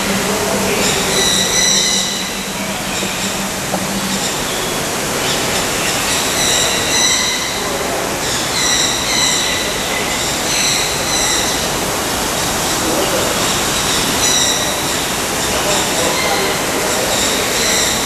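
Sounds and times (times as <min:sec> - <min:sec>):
birds squealing calls: 0:00.0 - 0:18.0.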